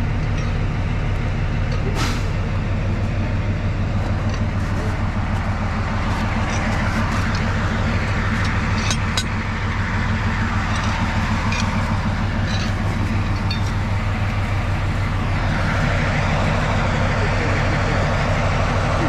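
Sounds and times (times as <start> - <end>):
diesel locomotive engine idling: 0.0 - 19.0.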